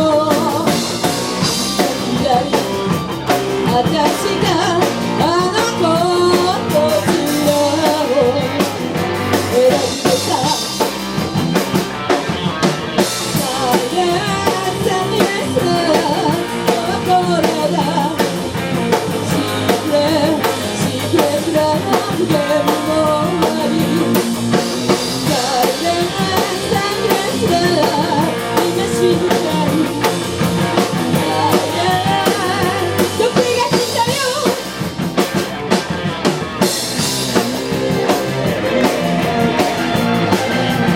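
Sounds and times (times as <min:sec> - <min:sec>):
person singing: 0:00.0 - 0:10.9, 0:12.3 - 0:34.8
drum kit beat: 0:00.0 - 0:40.9
electric guitar: 0:00.0 - 0:40.9
rock band playing: 0:00.0 - 0:40.9.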